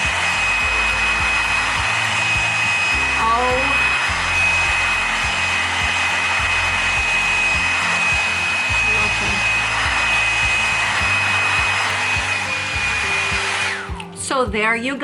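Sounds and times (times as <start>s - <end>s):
hair dryer blowing air: 0.0s - 14.2s
high whine: 0.0s - 14.2s.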